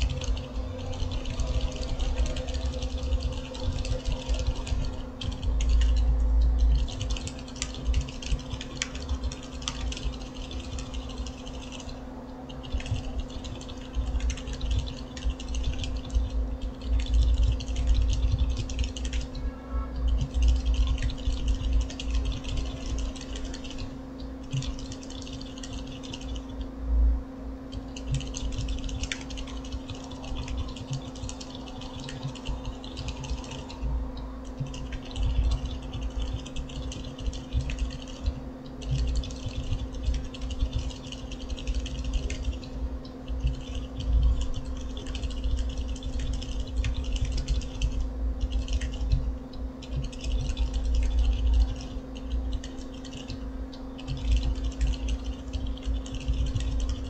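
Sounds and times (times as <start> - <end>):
typing on mechanical keyboard: 0.0 - 19.4, 20.1 - 26.6, 27.7 - 33.9, 34.5 - 53.4, 54.0 - 57.0
low hum: 0.0 - 57.0.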